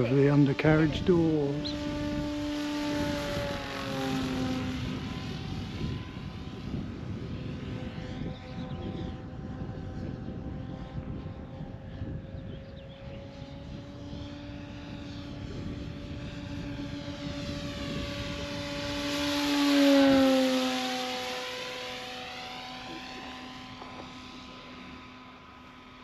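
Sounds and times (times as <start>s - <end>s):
model airplane engine and propeller: 0.0s - 26.0s.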